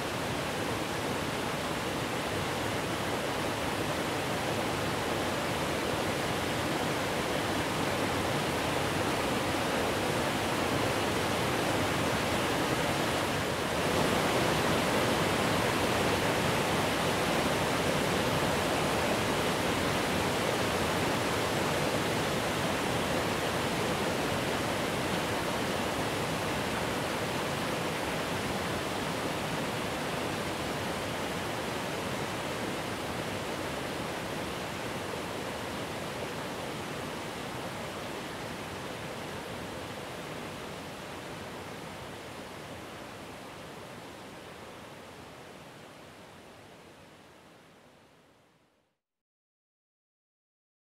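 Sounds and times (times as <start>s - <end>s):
large waterfall rushing: 0.0s - 47.9s.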